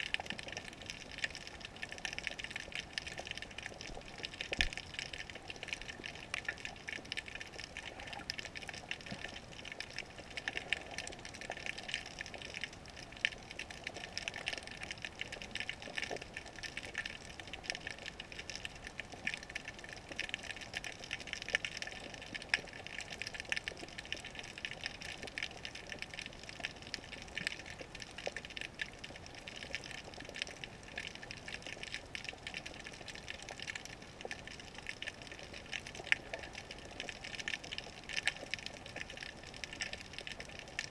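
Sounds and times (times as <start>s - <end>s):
underwater crackle of clicks: 0.0s - 40.9s.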